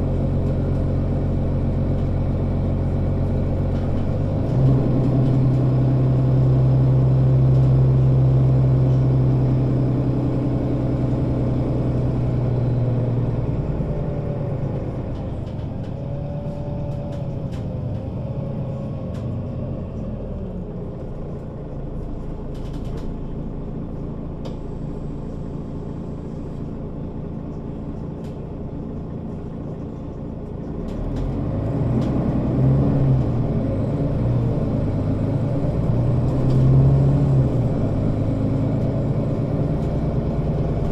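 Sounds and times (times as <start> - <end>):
bus engine rumble: 0.0 - 40.9.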